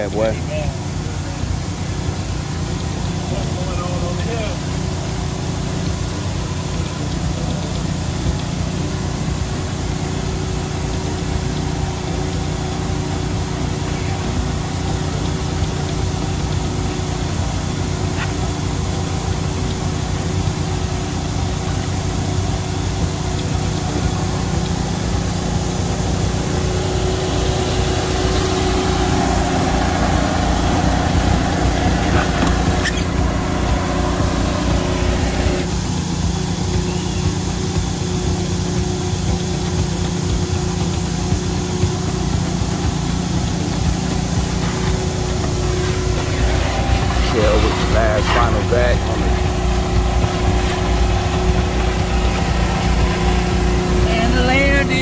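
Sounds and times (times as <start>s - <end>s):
hiss: 0.0s - 55.0s
small engine idling: 0.0s - 55.0s.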